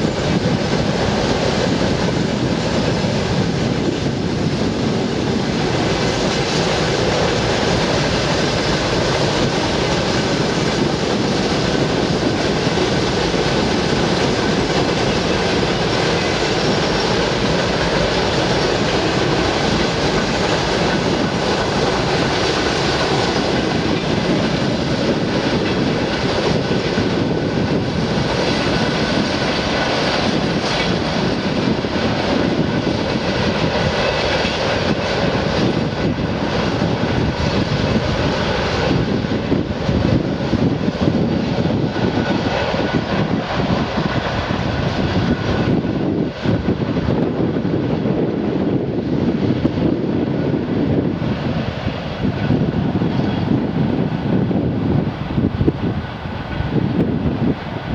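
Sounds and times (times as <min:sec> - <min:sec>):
strong wind buffeting microphone: 0:00.0 - 0:57.9.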